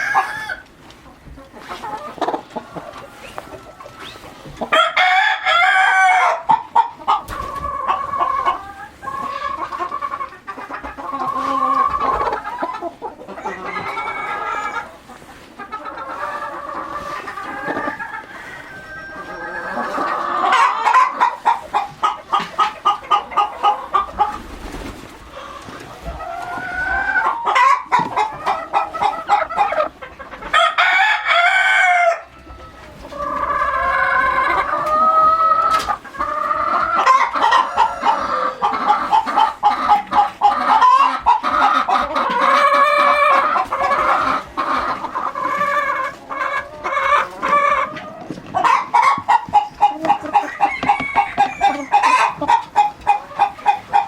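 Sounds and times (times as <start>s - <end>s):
chickens clucking: 0.0s - 54.0s
chickens squawking: 0.0s - 54.0s.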